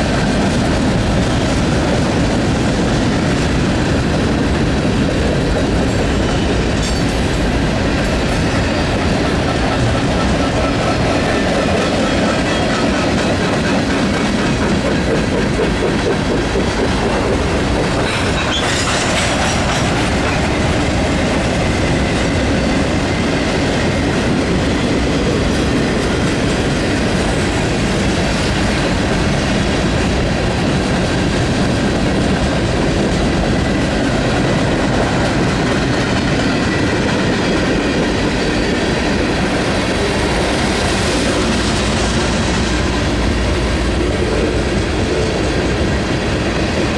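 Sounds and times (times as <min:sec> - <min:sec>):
freight train cars rolling past: 0:00.0 - 0:46.9.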